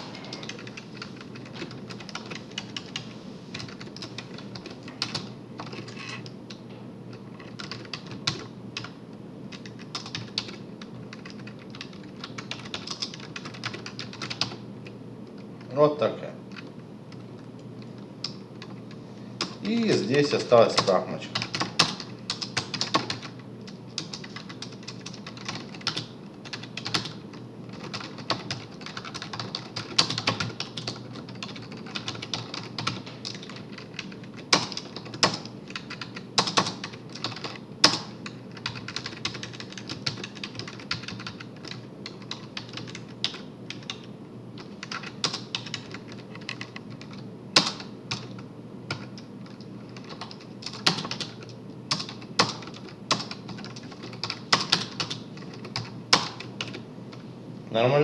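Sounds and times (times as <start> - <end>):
typing on a computer keyboard: 0.3 - 15.8, 20.7 - 56.8.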